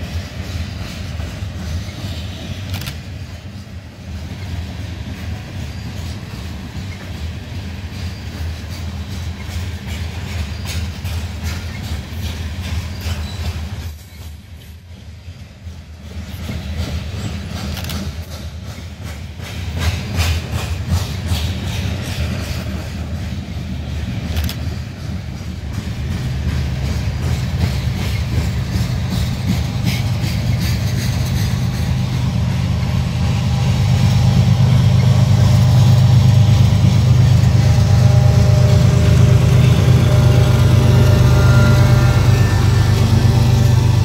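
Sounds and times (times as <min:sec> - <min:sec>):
diesel locomotive engine drone: 0:00.0 - 0:44.0
train wheels clicking: 0:00.0 - 0:44.0.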